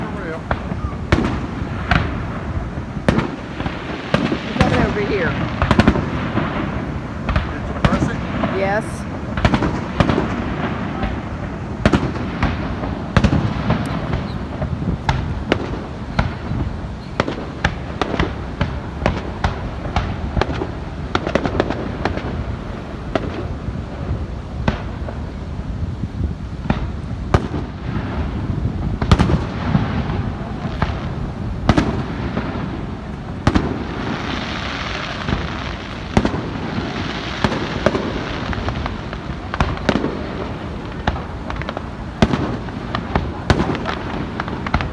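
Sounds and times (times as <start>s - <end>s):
continuous rumble: 0.0s - 44.9s
fireworks bangs and booms: 0.0s - 44.9s
fireworks hissing and crackling: 0.0s - 44.9s.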